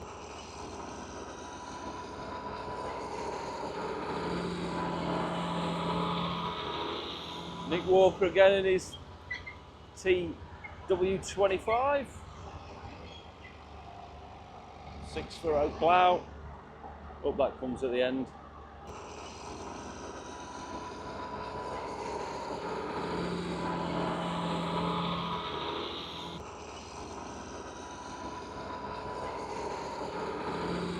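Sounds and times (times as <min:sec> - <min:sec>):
low steady hum: 0:00.0 - 0:16.3, 0:19.5 - 0:30.9
tractor diesel engine under load: 0:00.0 - 0:30.9.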